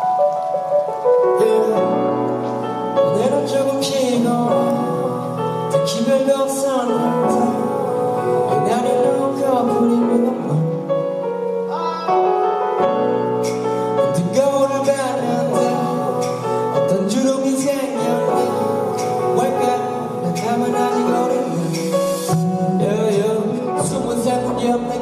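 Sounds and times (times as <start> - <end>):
song with vocals: 0.0 - 25.0.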